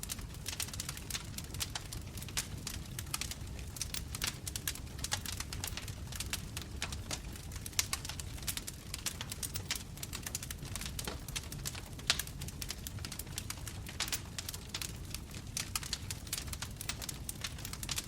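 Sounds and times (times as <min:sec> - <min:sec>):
fire pops and snaps: 0:00.0 - 0:18.0
low rumble of flames: 0:00.0 - 0:18.0.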